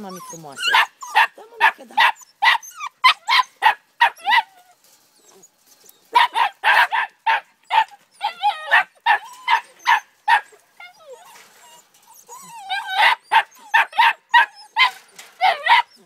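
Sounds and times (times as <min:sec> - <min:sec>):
puppies yapping: 0:00.0 - 0:16.0
puppy whining: 0:00.0 - 0:16.0.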